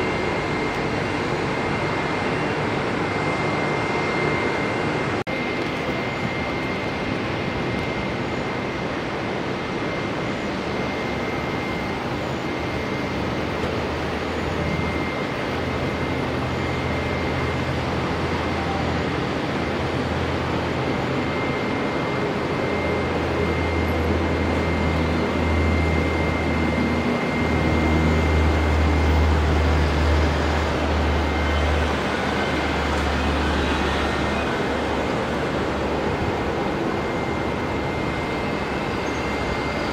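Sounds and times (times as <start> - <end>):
turboprop engines at takeoff: 0.0 - 39.9.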